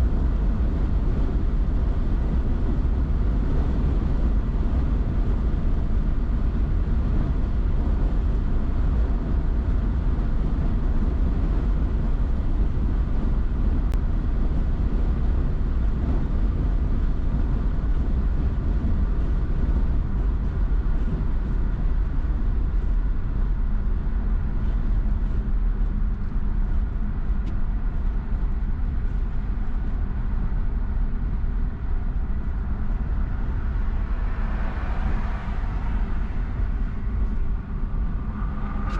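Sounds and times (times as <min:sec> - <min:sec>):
car driving at highway speed: 0:00.0 - 0:38.9.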